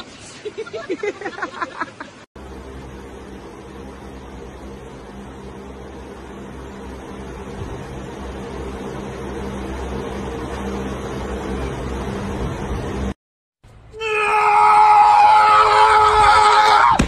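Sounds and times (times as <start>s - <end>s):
low humming: 1.3s - 17.0s.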